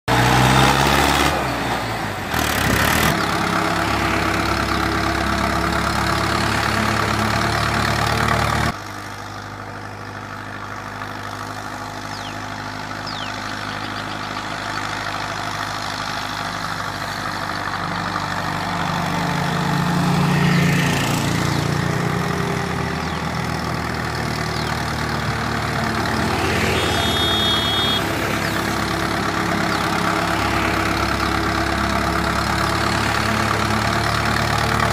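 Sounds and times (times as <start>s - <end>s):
distant tractor engine approaching: 0.1s - 34.9s
tractor engine under load: 0.1s - 34.9s.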